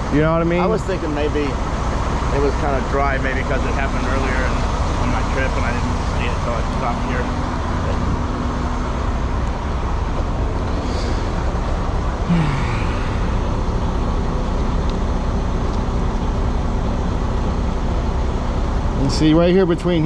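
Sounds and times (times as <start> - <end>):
road traffic: 0.0 - 20.0
truck engine idling: 0.0 - 20.0.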